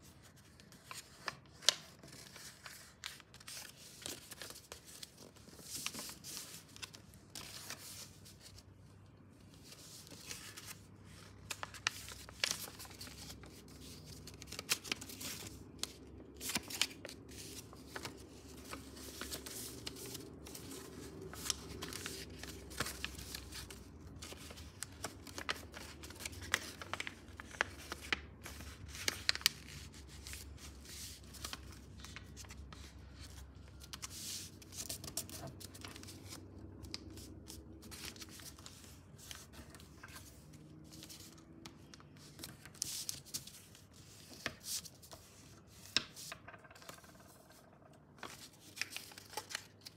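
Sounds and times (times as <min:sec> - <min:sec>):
paper being folded and creased: 0:00.0 - 0:49.9.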